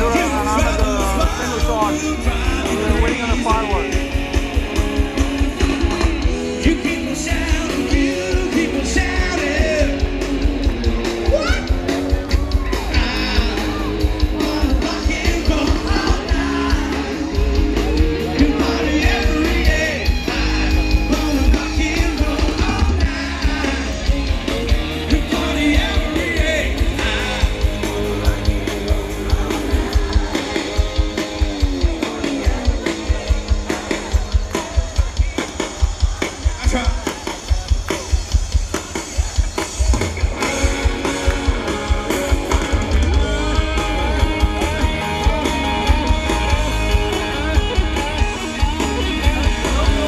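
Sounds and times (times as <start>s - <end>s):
drum beat: 0.0s - 50.0s
rock music with singer: 0.0s - 50.0s.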